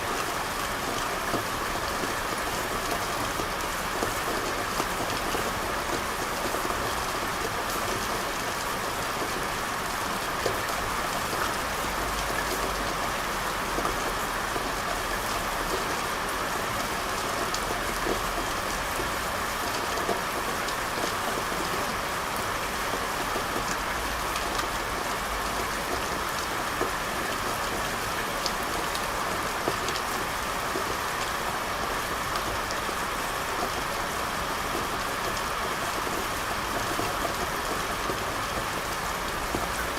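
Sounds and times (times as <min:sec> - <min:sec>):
rain on hard surface: 0:00.0 - 0:39.9.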